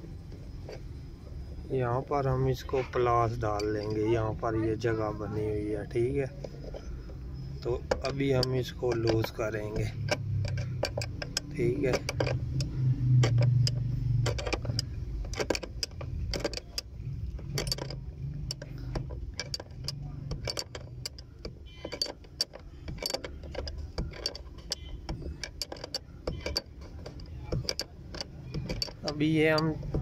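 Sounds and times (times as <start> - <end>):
low steady hum: 0.0 - 30.0
spanner clicking on metal nut: 2.2 - 30.0.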